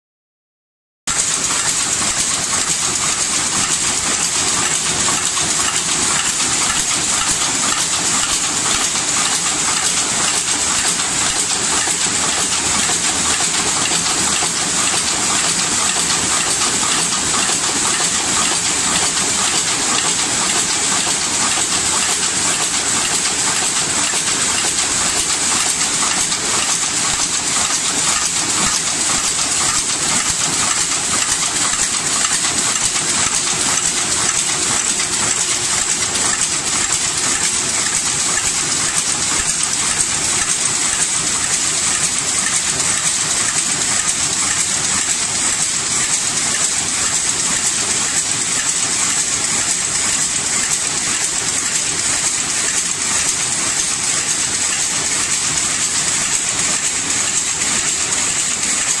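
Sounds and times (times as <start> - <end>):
metallic clatter: 1.1 - 59.0.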